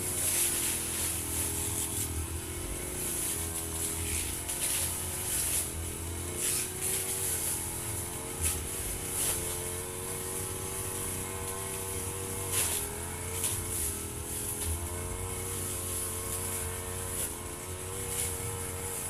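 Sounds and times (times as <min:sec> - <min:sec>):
brush cutter engine running: 0:00.0 - 0:19.0
line swishing through grass: 0:00.0 - 0:19.0.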